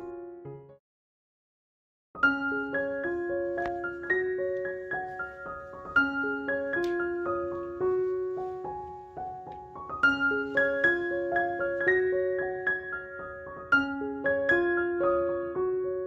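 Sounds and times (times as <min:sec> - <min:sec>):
gentle piano melody: 0:00.0 - 0:00.8, 0:02.2 - 0:16.0.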